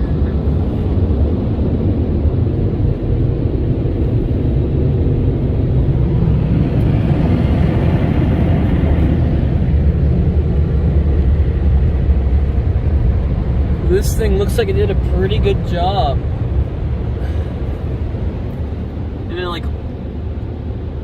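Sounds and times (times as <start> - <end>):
car wash dryer blowers roaring: 0.0 - 21.0.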